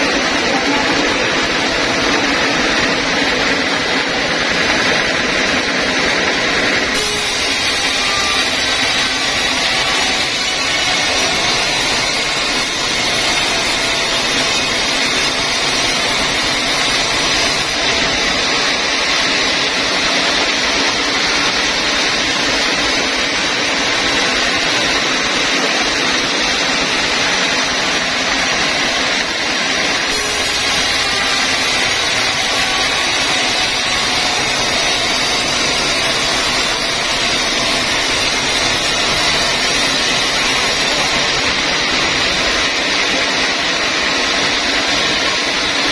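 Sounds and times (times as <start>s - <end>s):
band sawmill cutting log: 0.0s - 45.9s.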